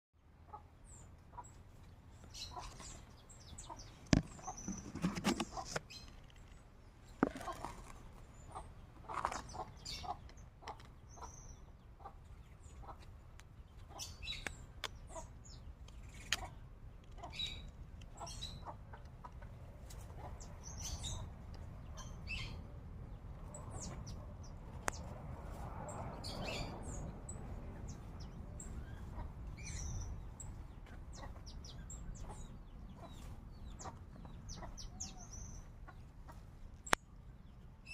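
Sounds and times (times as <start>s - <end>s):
small birds chirping: 0.2s - 37.9s
chickens clucking: 0.3s - 6.2s, 7.1s - 37.6s.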